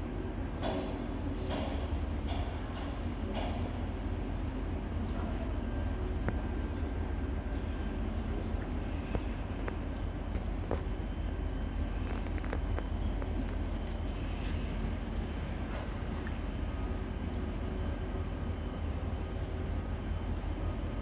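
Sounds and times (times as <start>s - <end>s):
train rumble approaching: 0.0s - 21.0s.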